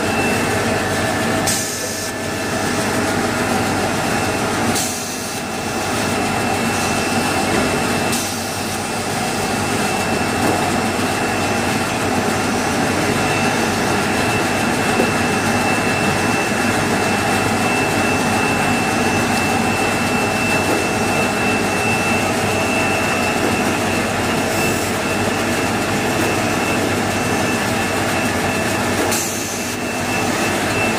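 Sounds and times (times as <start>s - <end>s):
machine humming: 0.0s - 30.9s.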